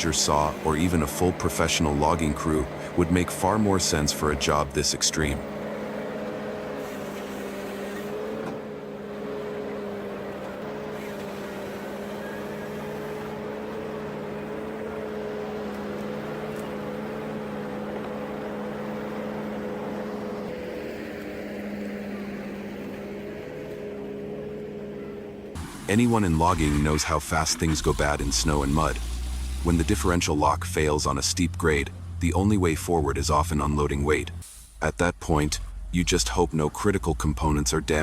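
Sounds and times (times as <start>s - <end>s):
heavy machine engine humming: 0.0s - 38.0s.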